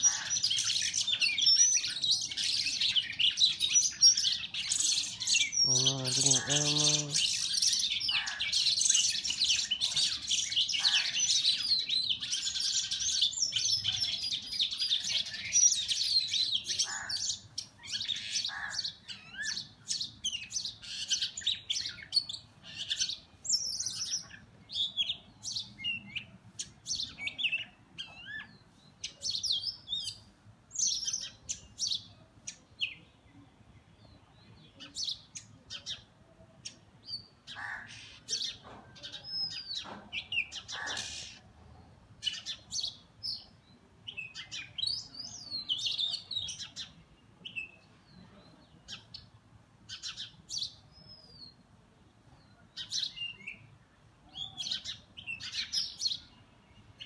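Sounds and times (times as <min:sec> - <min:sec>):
birds chipping and whistling: 0:00.0 - 0:33.0, 0:34.0 - 0:51.6, 0:52.3 - 0:57.0.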